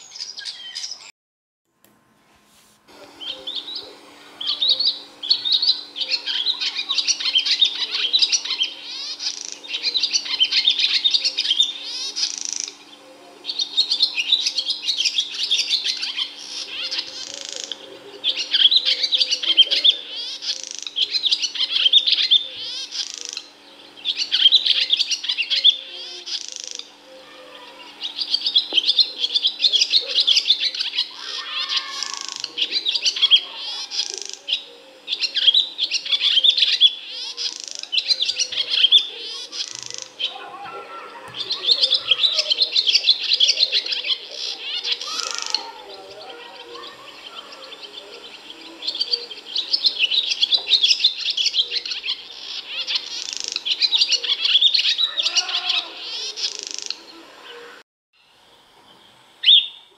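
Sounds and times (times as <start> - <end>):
swallow twittering: 3.0 - 57.8.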